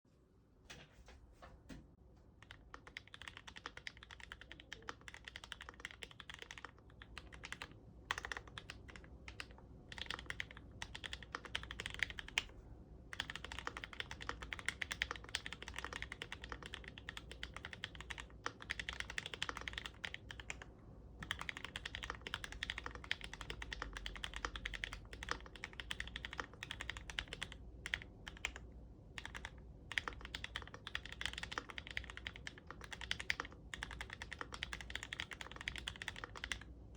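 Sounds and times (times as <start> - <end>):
mechanical keyboard typing: 2.4 - 12.5, 13.1 - 36.7.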